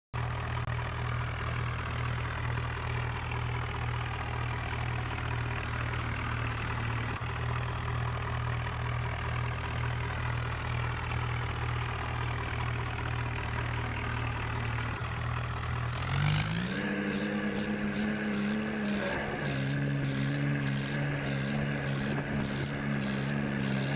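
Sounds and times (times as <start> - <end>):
tractor diesel engine droning: 0.2 - 23.9.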